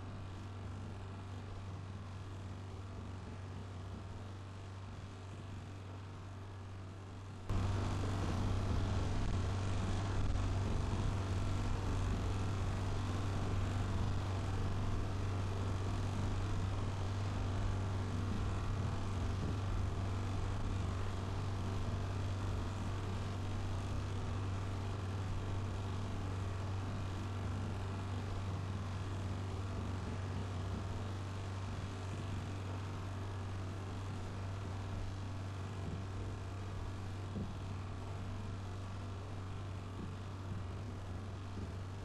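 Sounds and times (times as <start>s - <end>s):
outboard motor running: 0.0s - 42.0s.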